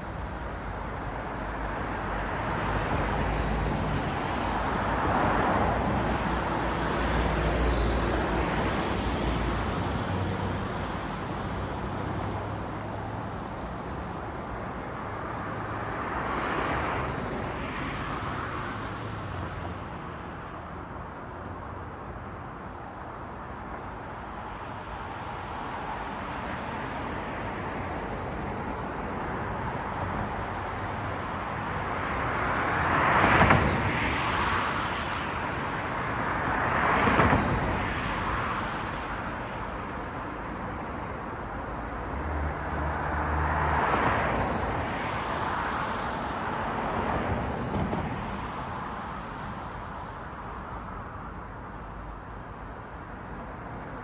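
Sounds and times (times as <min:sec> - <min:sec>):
cars passing: 0:00.1 - 0:20.5, 0:24.4 - 0:54.0.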